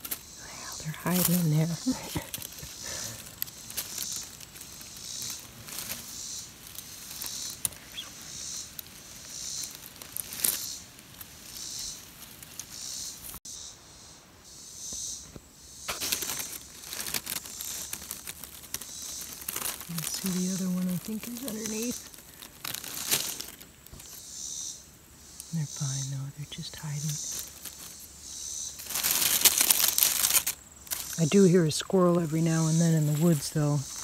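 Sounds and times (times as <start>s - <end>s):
dry grass rustling and crackling: 0.0s - 13.4s, 15.2s - 34.0s.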